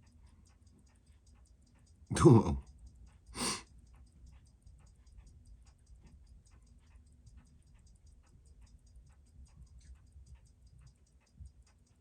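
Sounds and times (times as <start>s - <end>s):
watch ticking: 0.0s - 12.0s.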